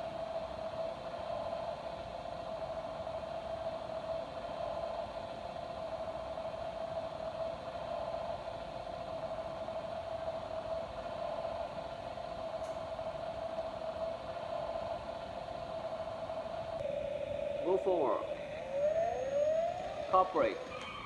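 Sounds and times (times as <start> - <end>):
faint hum: 0.0 - 21.0
steady hiss: 0.0 - 21.0.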